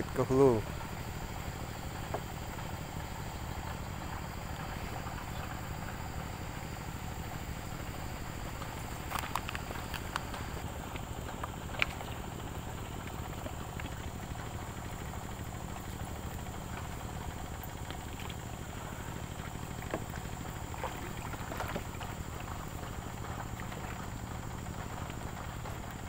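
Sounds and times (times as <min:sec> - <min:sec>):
low rumble of water: 0:00.0 - 0:26.0.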